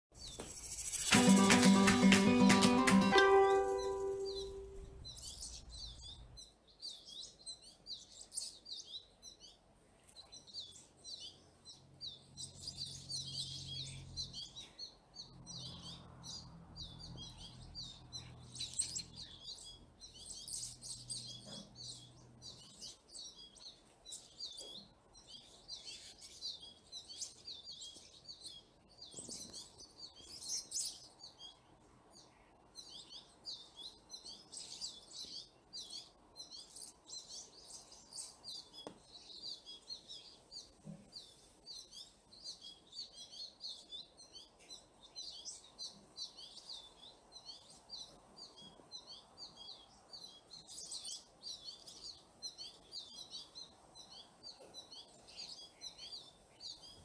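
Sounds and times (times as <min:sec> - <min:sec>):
small songbirds chirping: 0:00.1 - 0:57.0.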